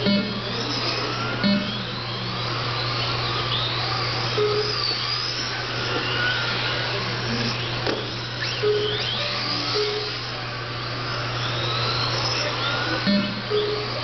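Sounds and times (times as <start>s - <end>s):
electric toy car motors whining: 0.0s - 14.0s
steady low hum: 0.0s - 14.0s.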